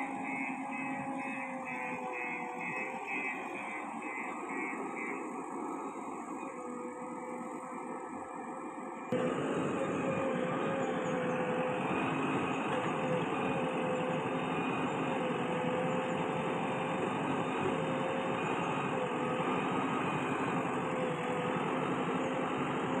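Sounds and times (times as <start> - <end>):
diesel engine running: 0.0 - 23.0
steady whine: 0.0 - 23.0.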